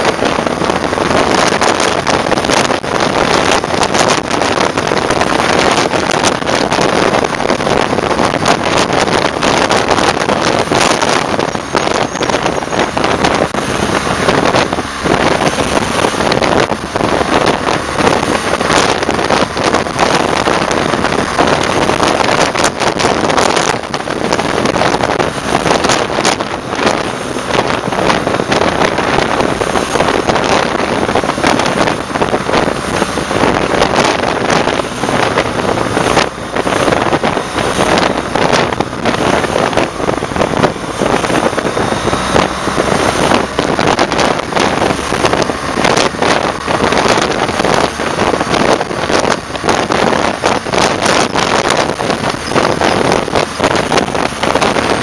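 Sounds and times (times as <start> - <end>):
motorcycle engine: 0.0 - 55.0
passing traffic: 0.0 - 55.0
wind buffeting microphone: 0.0 - 55.0.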